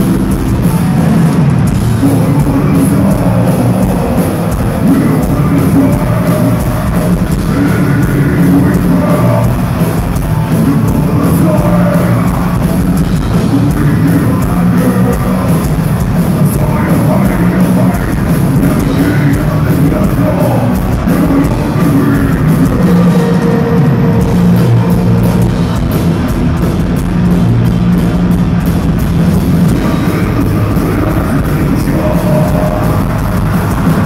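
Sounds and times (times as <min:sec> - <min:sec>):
person singing: 0:00.0 - 0:25.7, 0:29.6 - 0:34.0
bass guitar: 0:00.0 - 0:34.0
distorted electric guitars: 0:00.0 - 0:34.0
drum kit: 0:00.0 - 0:34.0.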